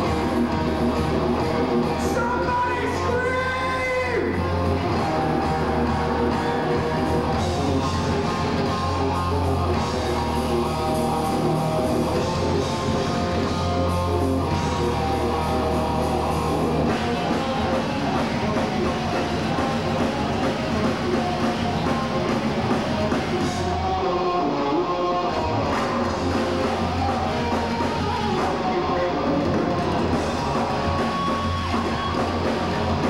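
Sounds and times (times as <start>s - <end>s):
heavy metal band playing: 0.0s - 33.0s.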